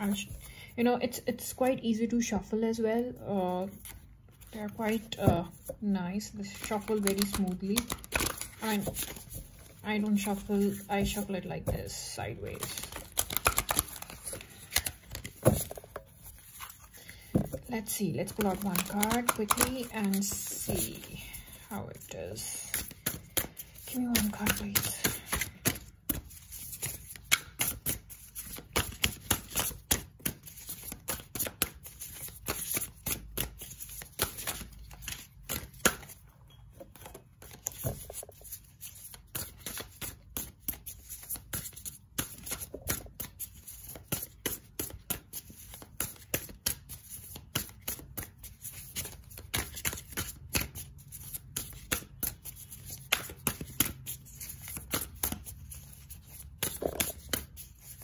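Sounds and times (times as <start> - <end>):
cards being shuffled: 6.4 - 36.2, 36.8 - 58.0.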